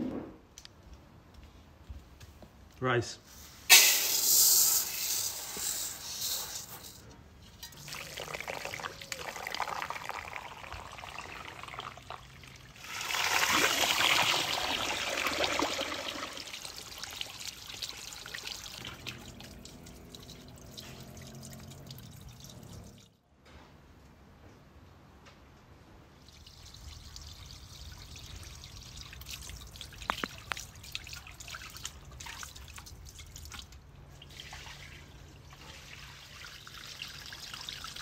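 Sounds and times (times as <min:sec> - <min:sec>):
hose water splashing into basin: 0:03.7 - 0:23.1, 0:26.2 - 0:38.0.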